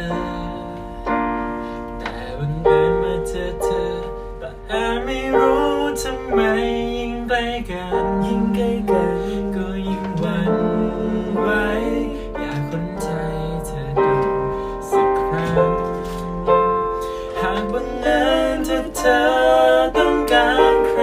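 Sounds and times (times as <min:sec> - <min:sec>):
person singing: 0:00.0 - 0:01.3, 0:02.0 - 0:21.0
electronic keyboard playing: 0:00.0 - 0:21.0.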